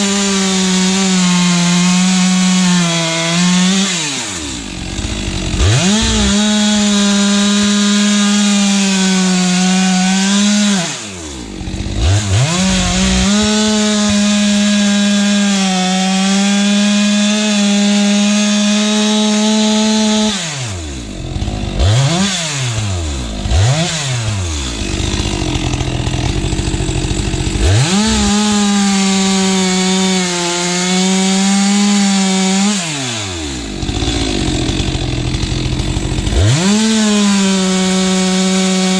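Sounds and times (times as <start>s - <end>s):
chainsaw cutting logs: 0.0s - 38.9s
chainsaw throttle blips: 0.0s - 38.9s.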